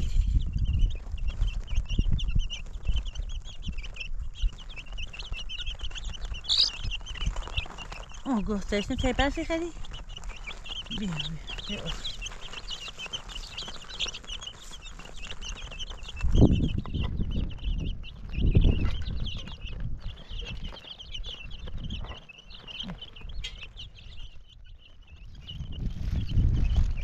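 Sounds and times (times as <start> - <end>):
chicks chirping and peeping: 0.0 - 27.0.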